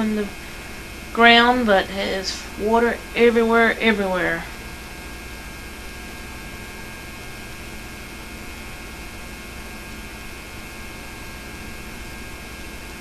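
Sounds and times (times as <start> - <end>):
electrical hum: 0.0 - 13.0
tape hiss: 0.0 - 13.0.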